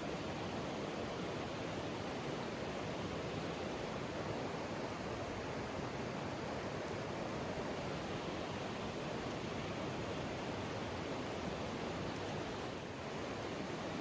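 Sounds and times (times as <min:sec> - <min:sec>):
stream water rushing over rocks: 0:00.0 - 0:14.0.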